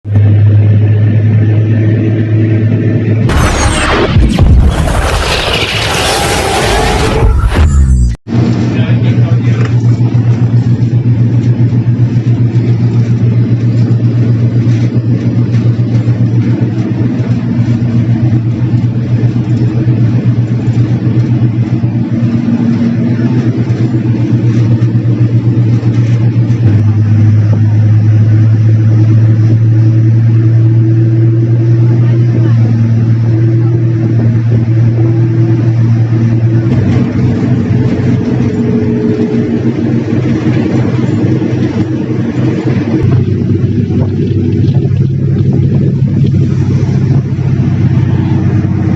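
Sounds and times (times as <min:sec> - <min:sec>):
diesel engines droning: 0:00.0 - 0:48.9.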